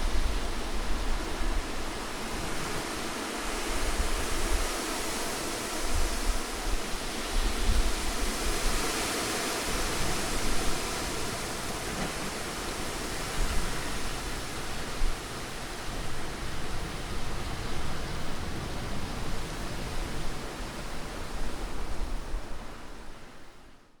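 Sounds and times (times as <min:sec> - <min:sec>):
strong gusty wind: 0:00.0 - 0:23.4.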